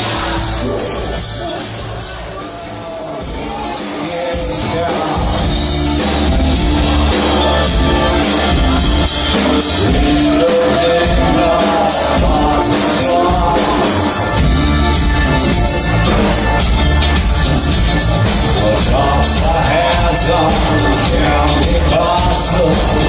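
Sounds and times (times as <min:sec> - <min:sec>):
band playing rock music: 0:00.0 - 0:23.0.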